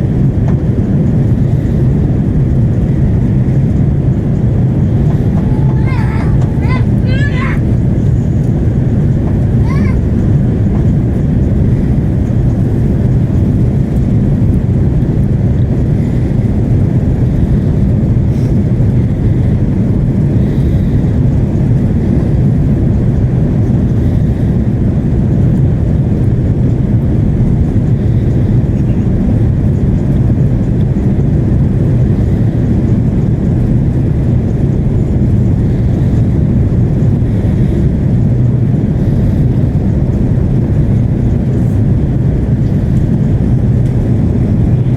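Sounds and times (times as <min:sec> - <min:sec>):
airflow noise: 0:00.0 - 0:25.1, 0:25.7 - 0:44.9
airliner cabin engine drone: 0:00.0 - 0:44.9.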